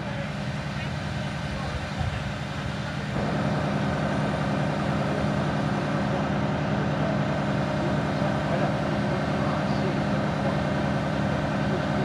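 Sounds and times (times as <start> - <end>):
fire truck diesel engine running: 0.0 - 12.0.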